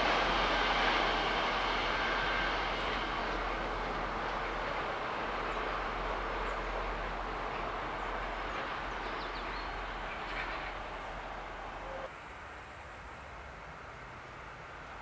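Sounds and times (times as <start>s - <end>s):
freight train wagons rolling: 0.0s - 12.1s.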